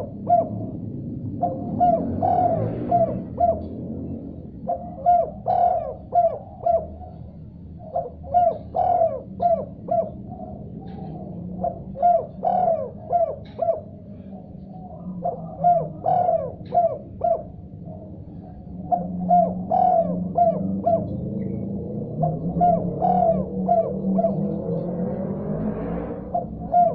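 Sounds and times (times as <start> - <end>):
dove cooing: 0.0 - 26.9.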